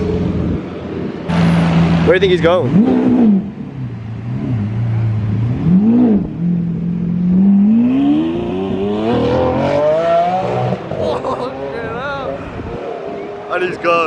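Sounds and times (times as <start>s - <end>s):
vehicle accelerating hard: 0.0s - 13.9s
vehicle engine idling and revving: 0.0s - 14.0s.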